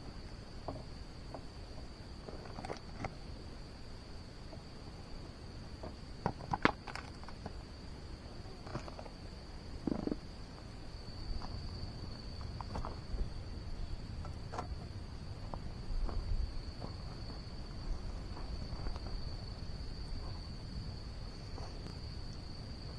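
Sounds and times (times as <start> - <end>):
insects chirring: 0.0 - 22.9.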